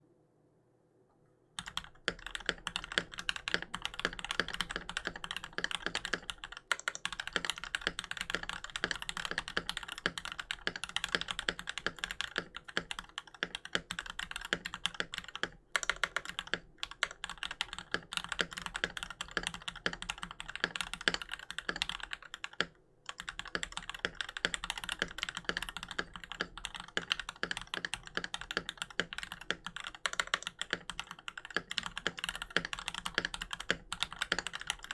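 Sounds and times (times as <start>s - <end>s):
fast mechanical keyboard typing: 1.6s - 34.9s.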